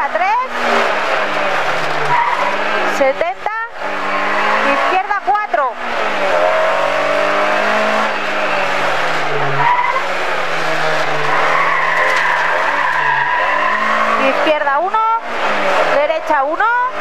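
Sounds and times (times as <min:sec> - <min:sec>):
rally car engine running hard: 0:00.0 - 0:17.0.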